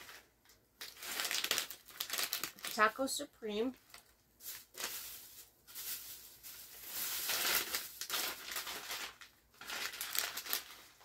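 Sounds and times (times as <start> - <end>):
plastic snack bags crinkling: 0.0 - 11.0.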